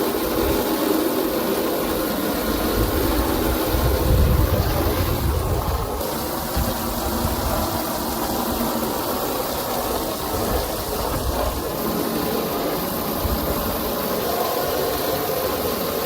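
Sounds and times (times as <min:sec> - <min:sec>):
water from hose splashing: 0:00.0 - 0:16.0.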